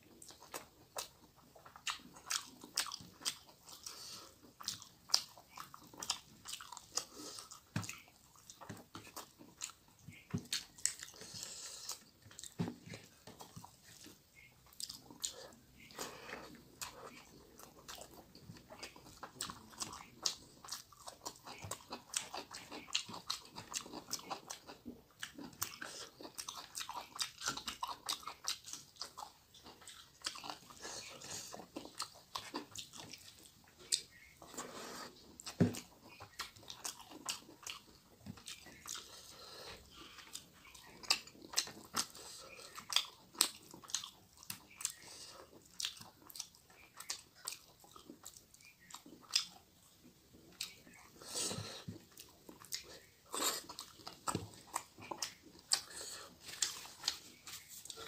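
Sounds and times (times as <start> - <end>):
person chewing and lip smacking: 0.0 - 58.0.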